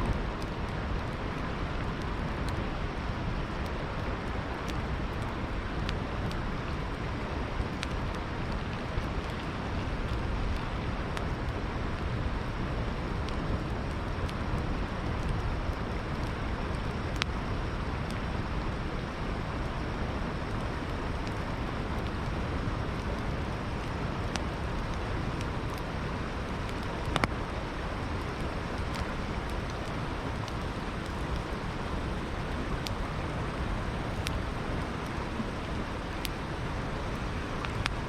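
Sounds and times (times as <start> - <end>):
campfire crackling: 0.0 - 38.0
river water flowing: 0.0 - 38.0.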